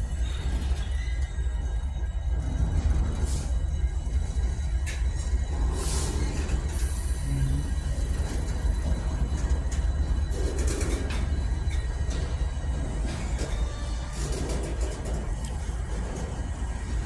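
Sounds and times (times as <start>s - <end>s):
freight train rumbling past: 0.0s - 17.0s
train clicks: 0.0s - 17.0s.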